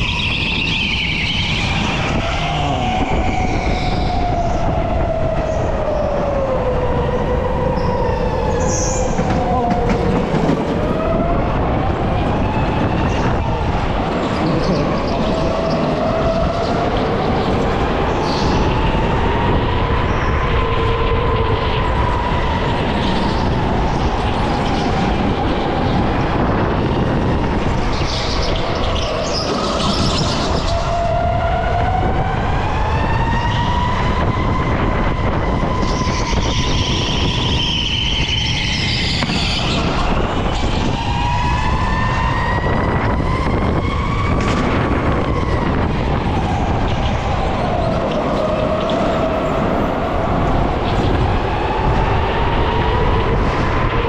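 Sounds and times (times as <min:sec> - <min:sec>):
tyre and wind noise: 0:00.0 - 0:54.0.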